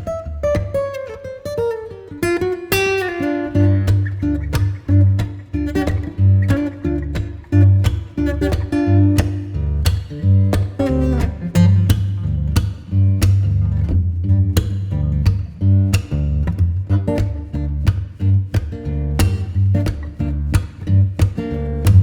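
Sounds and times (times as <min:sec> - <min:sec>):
bass and beat: 0:00.0 - 0:00.9, 0:03.5 - 0:22.0
guitar instrumental music: 0:00.0 - 0:22.0.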